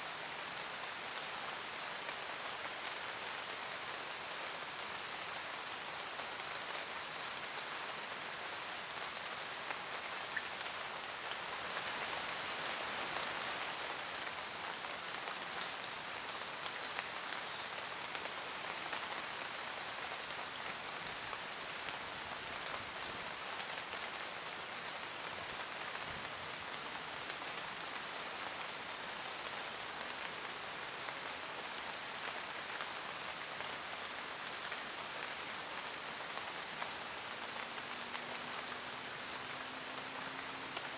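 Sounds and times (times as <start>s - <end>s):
rain pattering on leaves: 0.0s - 40.9s.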